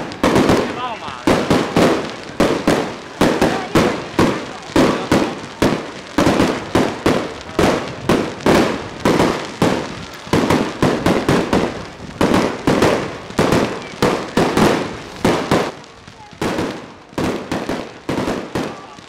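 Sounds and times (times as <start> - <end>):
fireworks bursting with sharp bangs: 0.0 - 19.0.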